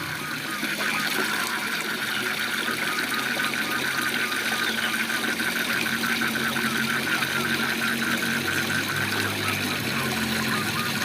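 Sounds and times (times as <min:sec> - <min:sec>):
frog calling: 0:00.0 - 0:11.0.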